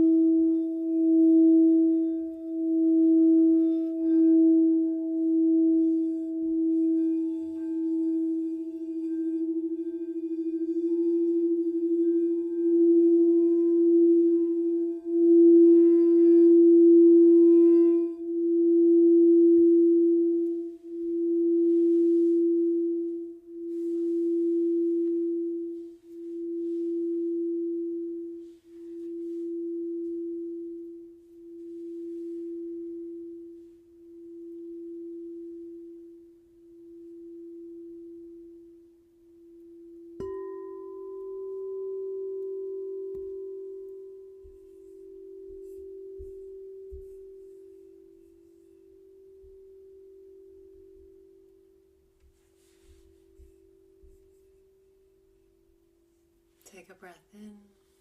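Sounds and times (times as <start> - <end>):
singing bowl ringing: 0.0 - 56.5.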